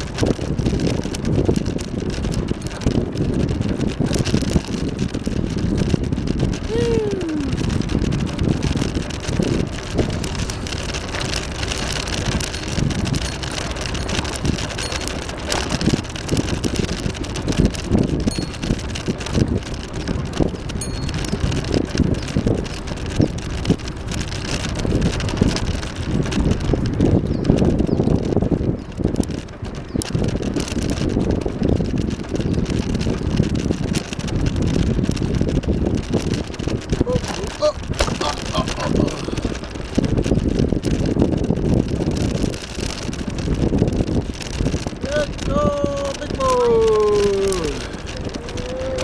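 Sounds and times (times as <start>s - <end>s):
bicycle rolling along path: 0.0s - 49.0s
wind buffeting microphone: 0.0s - 49.0s.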